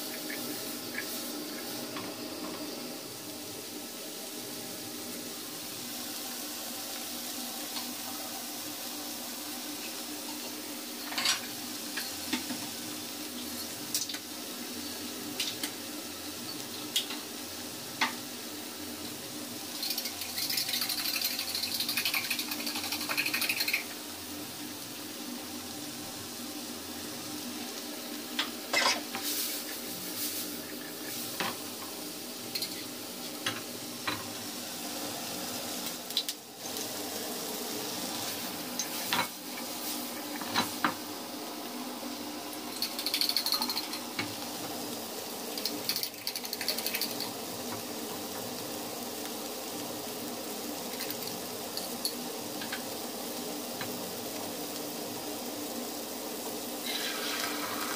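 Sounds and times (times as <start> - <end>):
vegetables sizzling in a pan: 0.0 - 57.9.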